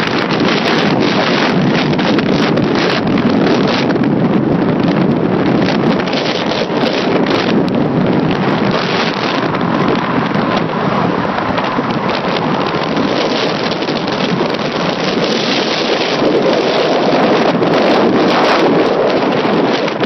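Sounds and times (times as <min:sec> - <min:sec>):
road noise: 0:00.0 - 0:20.0
wind rushing over microphone: 0:00.0 - 0:20.0.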